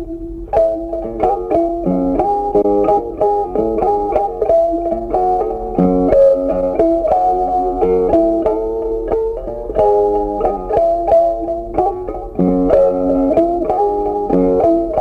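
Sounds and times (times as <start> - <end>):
plucked string melody: 0.0 - 15.0.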